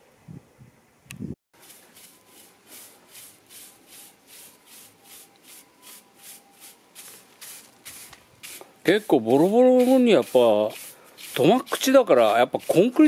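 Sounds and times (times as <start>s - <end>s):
push broom sweeping concrete: 1.6s - 13.0s.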